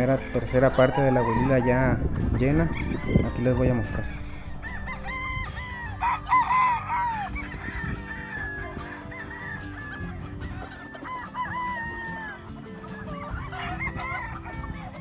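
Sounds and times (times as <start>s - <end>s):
roosters crowing and clucking: 0.0s - 15.0s.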